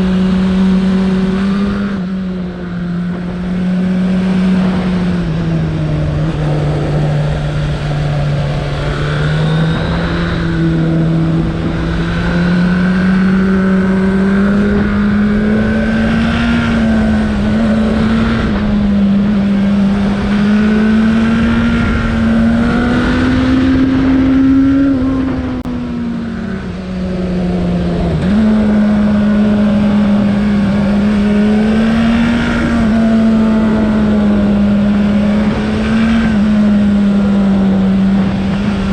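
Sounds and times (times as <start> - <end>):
low rushing noise: 0.0 - 38.9
motorcycle engine running: 0.0 - 38.9.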